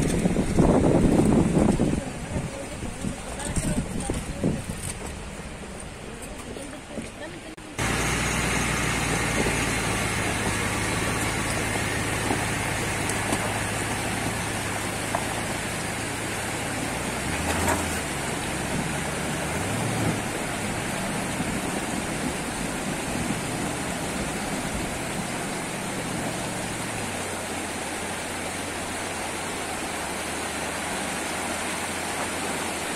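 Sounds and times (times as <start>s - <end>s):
river rushing: 0.0s - 32.9s
truck engine running: 0.0s - 32.9s.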